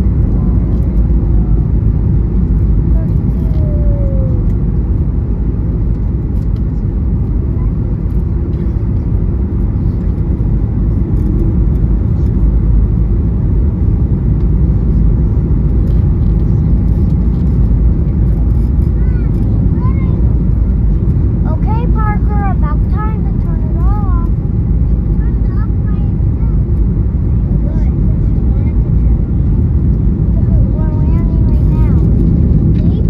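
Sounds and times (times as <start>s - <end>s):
jet engines rumbling in cabin: 0.0s - 33.0s.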